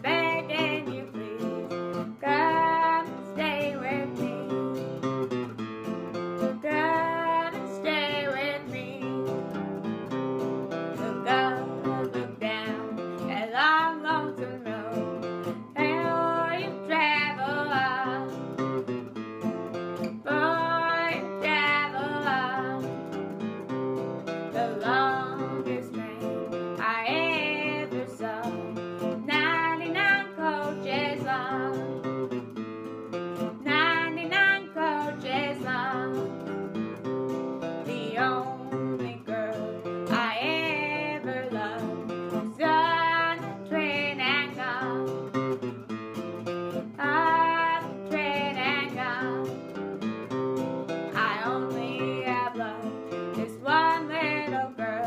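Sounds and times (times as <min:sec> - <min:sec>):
woman singing: 0:00.0 - 0:19.2, 0:19.9 - 0:55.0
strummed acoustic guitar: 0:00.0 - 0:55.0.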